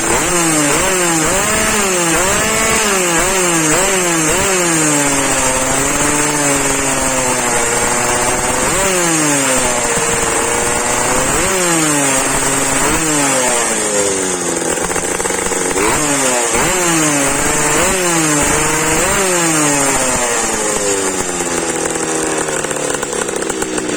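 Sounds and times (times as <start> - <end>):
moped engine revving: 0.0 - 23.9.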